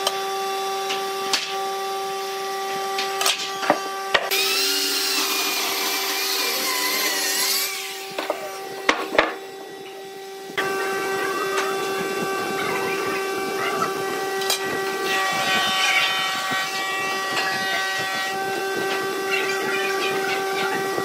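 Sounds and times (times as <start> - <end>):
power tool whining: 0.0 - 21.0.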